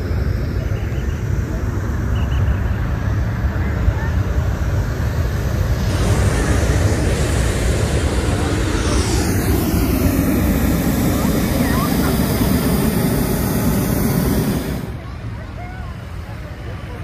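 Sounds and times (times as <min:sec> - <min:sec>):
crowd chatter: 0:00.0 - 0:17.0
low outdoor rumble: 0:00.0 - 0:17.0.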